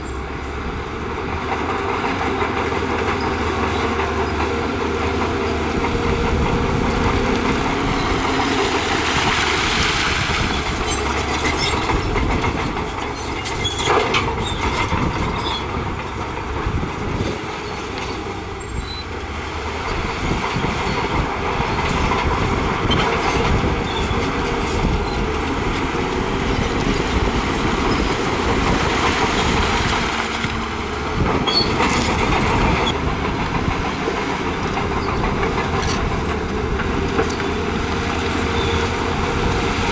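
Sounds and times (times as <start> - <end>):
diesel engine under load: 0.0 - 39.9
steel tracks clanking: 0.0 - 39.9.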